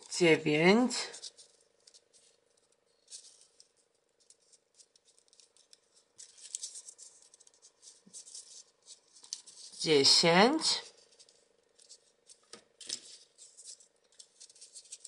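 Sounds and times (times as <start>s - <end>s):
faint steady hum: 0.0s - 15.0s
paper crackling and rustling: 1.0s - 9.8s, 10.8s - 15.0s.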